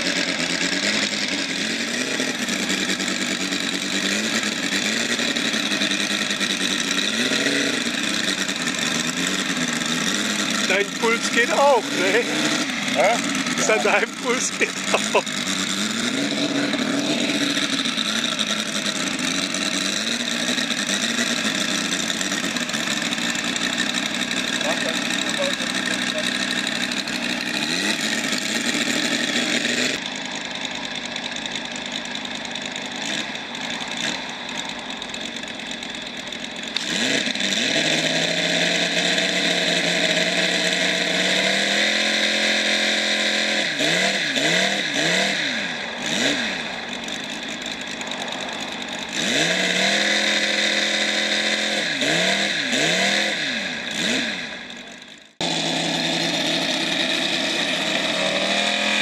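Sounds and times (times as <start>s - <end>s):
model airplane engine revving: 0.0s - 59.0s.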